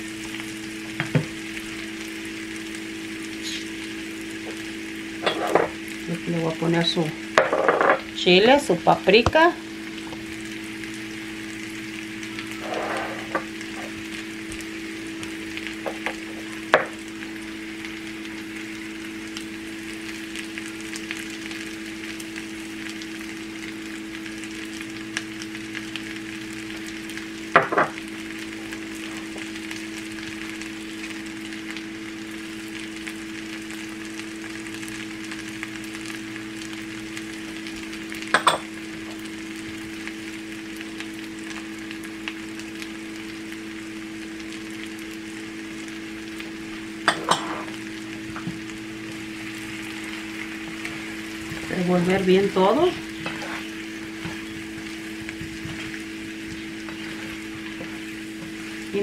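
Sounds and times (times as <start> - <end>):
potatoes sizzling in a skillet: 0.0 - 59.0.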